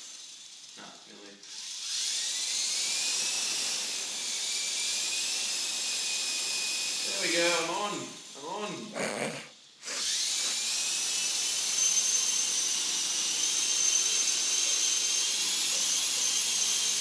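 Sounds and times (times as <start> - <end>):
toy helicopter motor whine: 0.0 - 17.0.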